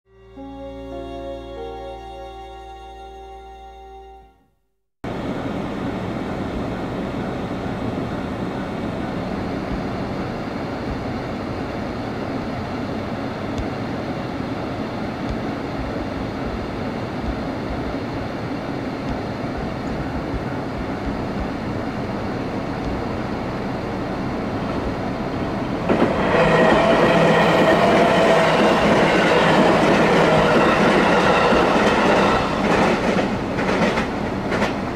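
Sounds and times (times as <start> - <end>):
electric train passing: 0.1 - 4.2, 5.1 - 34.9.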